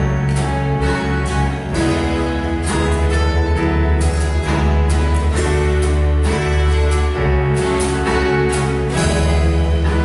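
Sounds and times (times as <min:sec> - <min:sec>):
church band playing worship song: 0:00.0 - 0:10.0.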